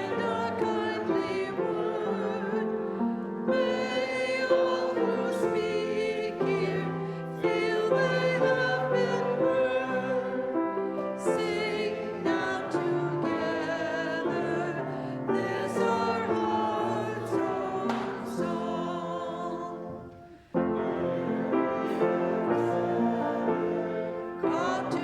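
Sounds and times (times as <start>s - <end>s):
congregation singing a hymn: 0.0s - 25.0s.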